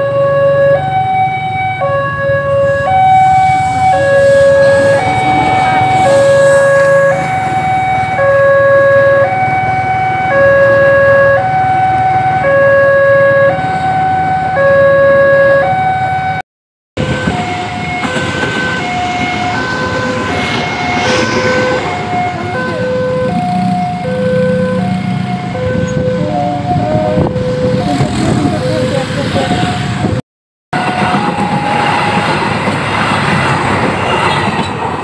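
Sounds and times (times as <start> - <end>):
level crossing alarm: 0.0 - 16.4, 17.0 - 29.9, 30.7 - 32.8.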